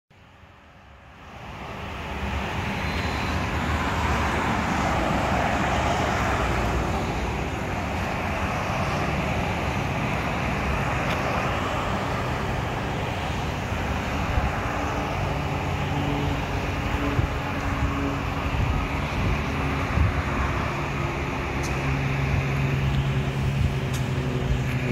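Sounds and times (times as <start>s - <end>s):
road traffic noise: 0.1s - 24.9s
low engine hum: 0.2s - 24.9s
vehicle passing close by: 1.3s - 24.9s.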